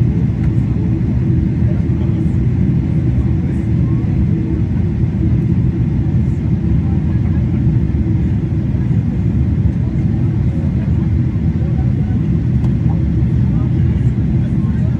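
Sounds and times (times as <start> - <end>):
jet engine cabin rumble: 0.0 - 14.9.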